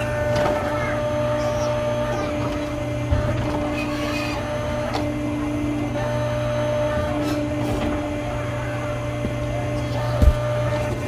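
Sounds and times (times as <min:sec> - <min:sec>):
hydraulic whine: 0:00.0 - 0:11.0
mini excavator motor humming: 0:00.0 - 0:11.0.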